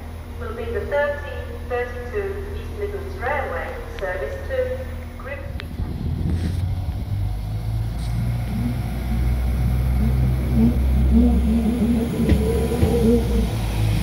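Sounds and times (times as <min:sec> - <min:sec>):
diesel train engine drone: 0:00.0 - 0:14.0
pulsing engine tone: 0:00.0 - 0:14.0.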